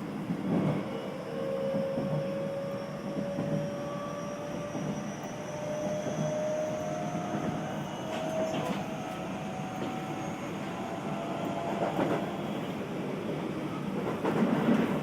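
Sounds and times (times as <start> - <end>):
train rolling noise: 0.0 - 15.0.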